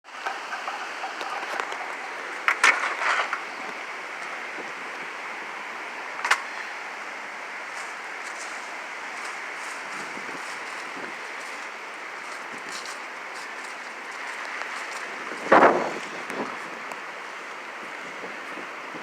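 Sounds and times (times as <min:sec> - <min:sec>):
hurricane wind: 0:00.0 - 0:19.0
rain: 0:00.0 - 0:19.0.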